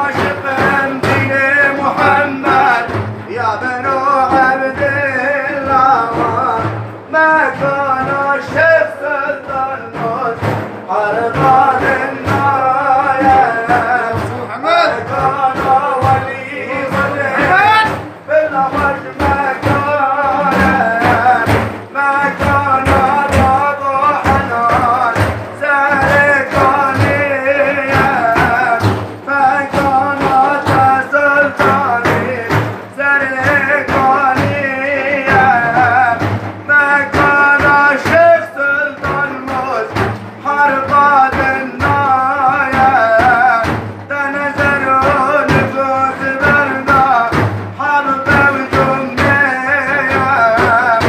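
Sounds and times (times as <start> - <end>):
man singing devotional chant: 0.0 - 51.0
regular drum beats: 0.0 - 51.0.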